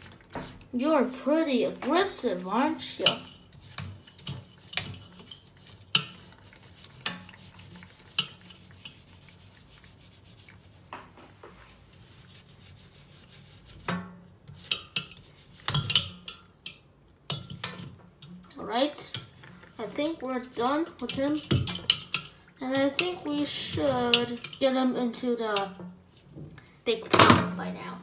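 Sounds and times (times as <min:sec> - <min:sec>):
brush scrubbing crab: 0:00.0 - 0:25.8.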